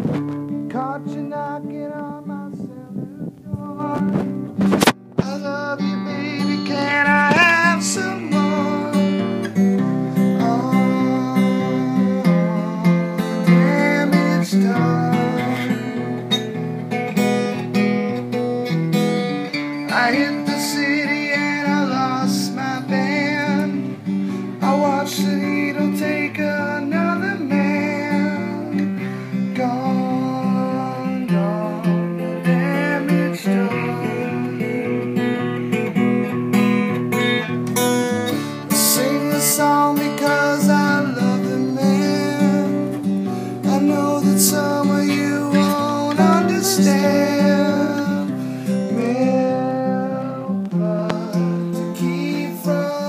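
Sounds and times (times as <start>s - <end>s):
acoustic guitar picking: 0.0s - 53.0s.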